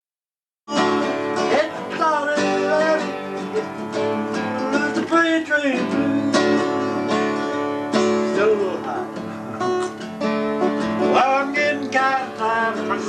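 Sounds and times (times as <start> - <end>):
country music with acoustic guitar: 0.7 - 13.0.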